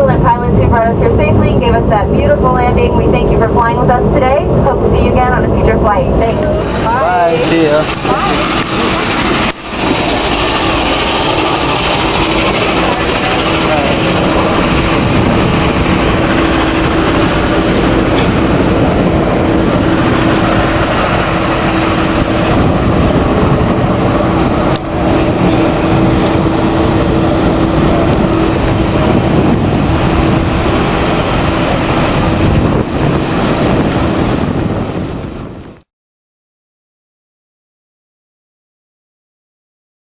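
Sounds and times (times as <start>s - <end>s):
propeller engine idling: 0.0s - 35.6s.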